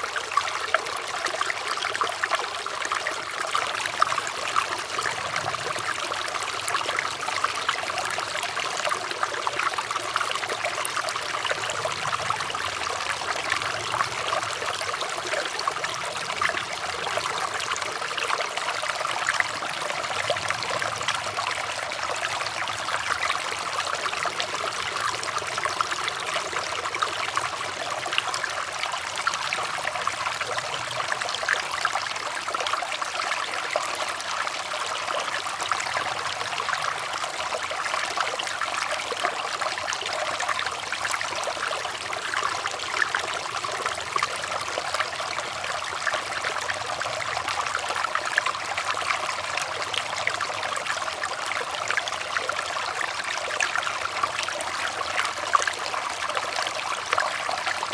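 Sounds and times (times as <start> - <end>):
stream babbling over stones: 0.0 - 57.9.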